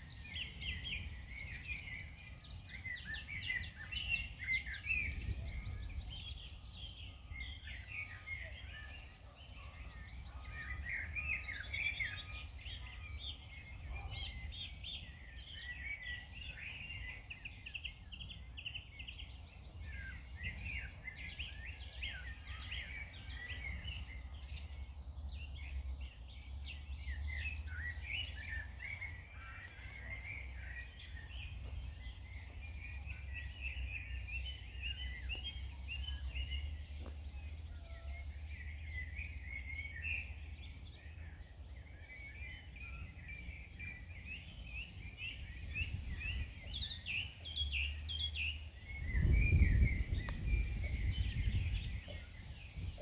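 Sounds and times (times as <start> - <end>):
low rumble of wind: 0.0 - 53.0
songbirds chirping and singing: 0.0 - 53.0.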